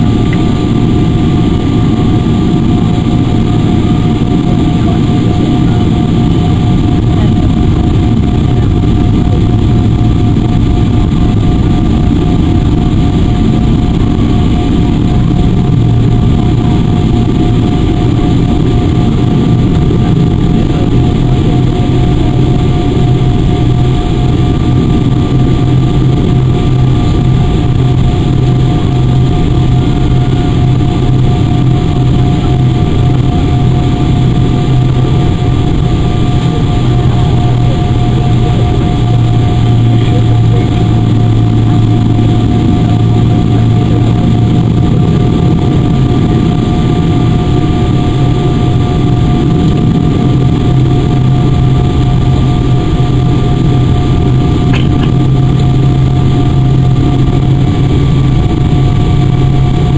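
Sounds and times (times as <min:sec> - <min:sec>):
constant engine whine: 0:00.0 - 0:59.9
jet engines low rumble: 0:00.0 - 0:59.9.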